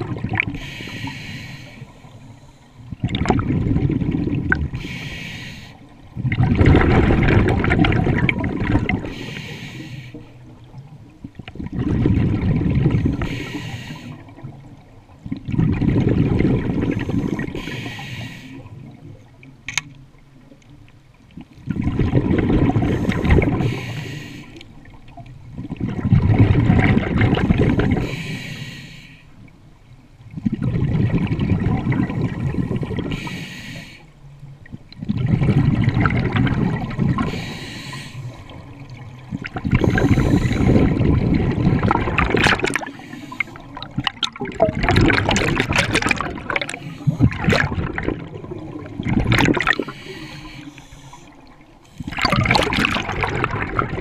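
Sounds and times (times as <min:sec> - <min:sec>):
underwater regulator exhaust bubbles: 0:00.0 - 0:02.0, 0:02.9 - 0:19.3, 0:21.4 - 0:28.3, 0:30.3 - 0:33.4, 0:34.6 - 0:54.0.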